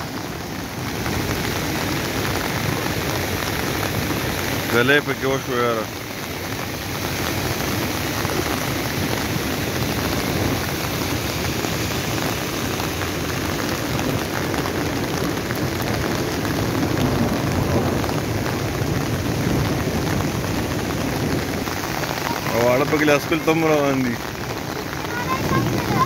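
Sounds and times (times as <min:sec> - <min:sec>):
rain falling on vegetation: 0:00.0 - 0:26.0.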